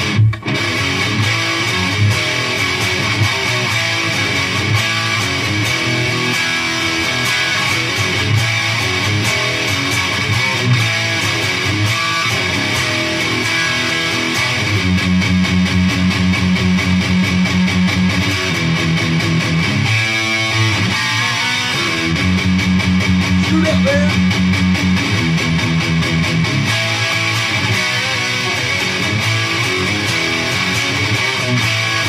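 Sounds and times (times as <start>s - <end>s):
electric guitar rock riff: 0.0s - 32.0s.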